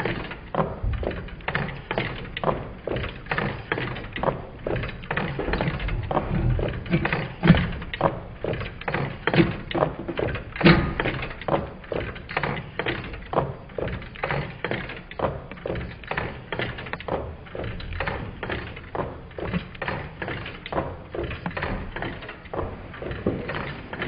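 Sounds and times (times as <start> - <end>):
stirling engine knocking: 0.0 - 24.0.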